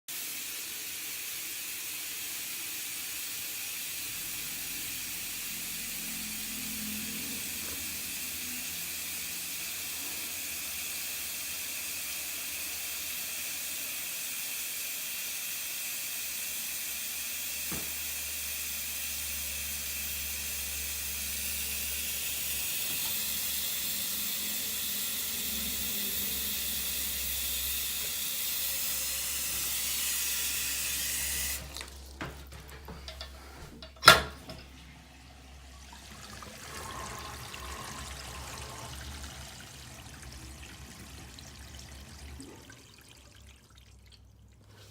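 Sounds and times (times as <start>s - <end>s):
running water hissing: 0.1s - 34.8s, 36.2s - 42.3s.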